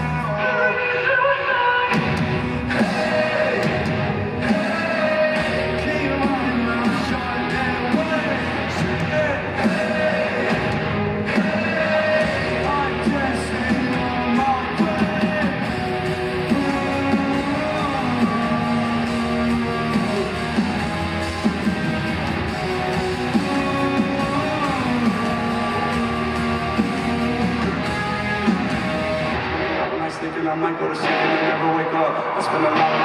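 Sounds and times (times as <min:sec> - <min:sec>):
electric guitar lines: 0:00.0 - 0:33.0
live rock band playing: 0:01.8 - 0:30.2, 0:31.0 - 0:33.0.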